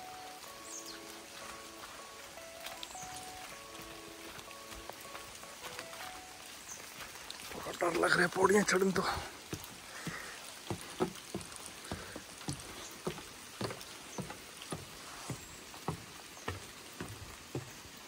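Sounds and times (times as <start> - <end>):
footsteps on wooden stairs: 0.0 - 18.0
light rain hiss: 0.0 - 18.0.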